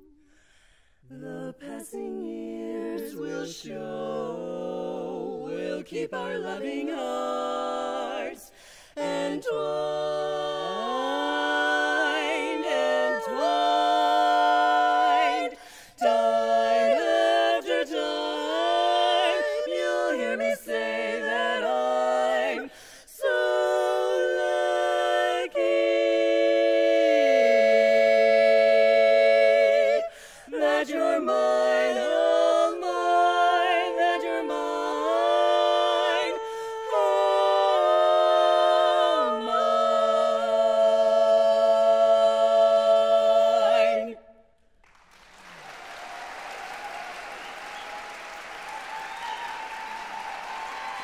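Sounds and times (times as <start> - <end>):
women singing in harmony: 1.0 - 44.5.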